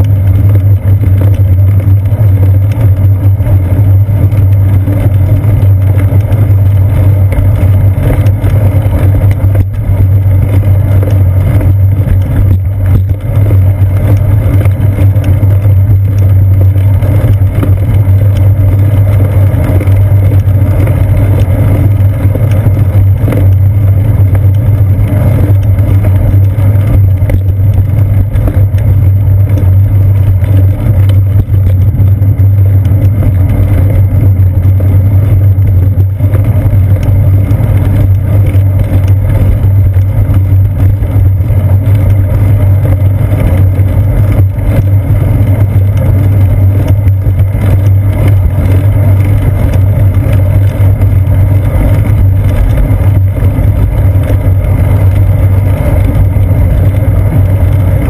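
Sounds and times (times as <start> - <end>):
road vibration rumble: 0.0 - 58.0.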